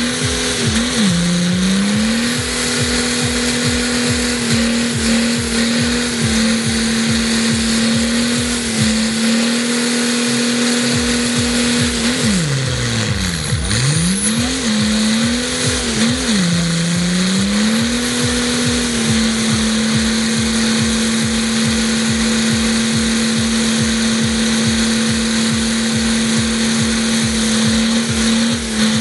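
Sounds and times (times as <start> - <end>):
car engine revving: 0.0 - 29.0
tyres spinning: 0.0 - 29.0.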